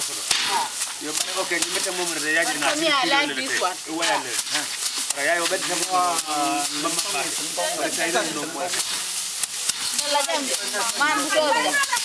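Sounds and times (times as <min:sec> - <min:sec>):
people talking: 0:00.0 - 0:09.1, 0:09.8 - 0:12.0
rice stalks rustling and crackling: 0:00.0 - 0:12.0.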